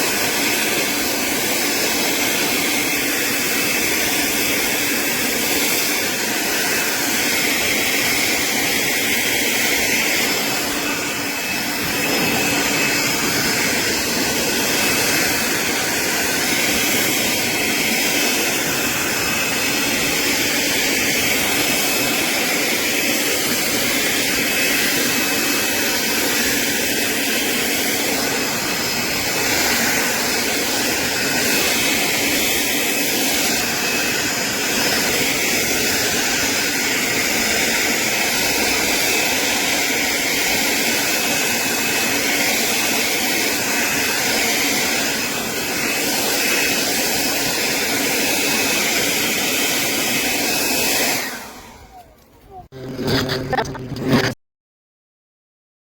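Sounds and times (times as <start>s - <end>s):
electric lawn mower whirring: 0.0s - 54.4s.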